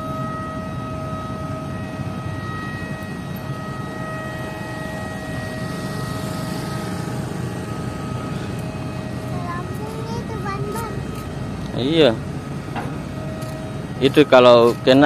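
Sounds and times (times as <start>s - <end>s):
diesel engines rumbling: 0.0s - 15.0s
steady high whine: 0.0s - 15.0s.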